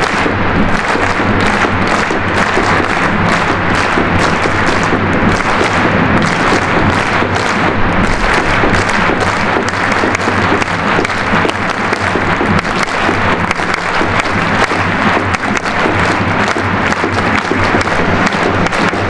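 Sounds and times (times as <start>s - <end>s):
stadium crowd clapping: 0.0s - 19.0s
steady low hum: 0.0s - 19.0s.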